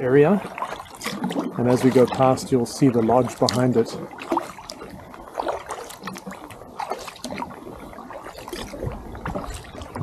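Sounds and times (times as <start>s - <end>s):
paddle blades dipping into water: 0.0s - 10.0s
water dripping off paddle: 0.1s - 10.0s.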